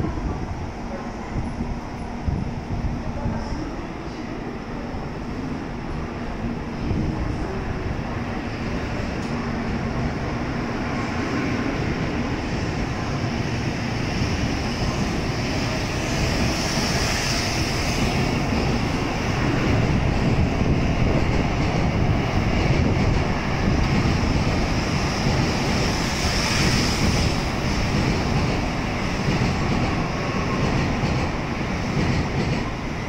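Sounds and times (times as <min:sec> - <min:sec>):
train accelerating: 0:00.0 - 0:33.0.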